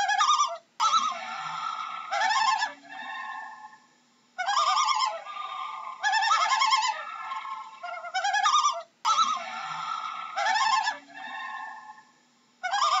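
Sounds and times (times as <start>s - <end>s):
loon tremolo calls: 0.0s - 13.0s.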